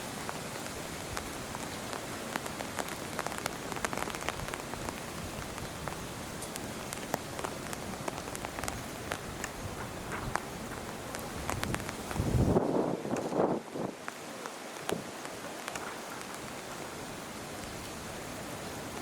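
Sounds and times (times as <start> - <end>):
rain falling on a surface: 0.0 - 19.0.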